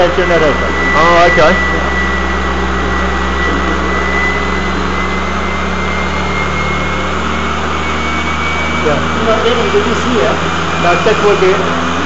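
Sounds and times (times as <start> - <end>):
steam turbine whirring: 0.0 - 12.0
thin high whine: 0.0 - 12.0.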